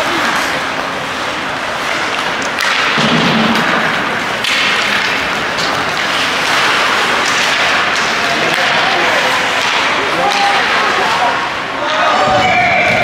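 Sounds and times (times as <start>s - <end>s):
hockey sticks and puck knocks: 0.0s - 13.0s
skates scraping ice: 0.0s - 13.0s.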